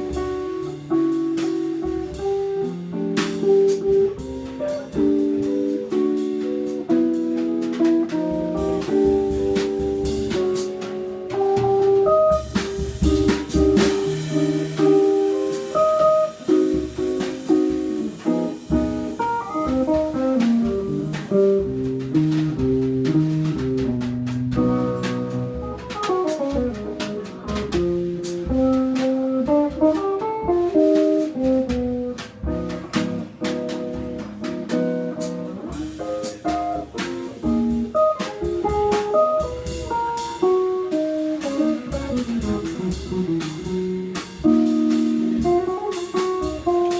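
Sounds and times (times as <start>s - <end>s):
drum kit with cymbals: 0.0s - 46.9s
electric guitar melody: 0.0s - 46.9s.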